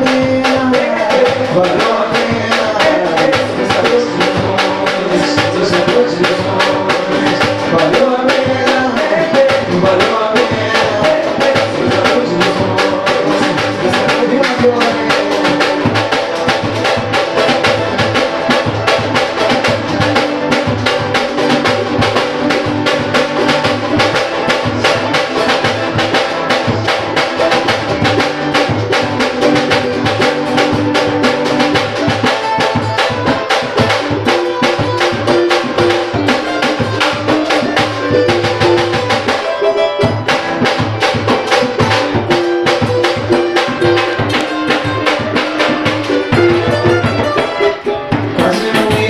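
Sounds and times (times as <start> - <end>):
fast percussion: 0.0 - 49.0
samba band playing: 0.0 - 49.0.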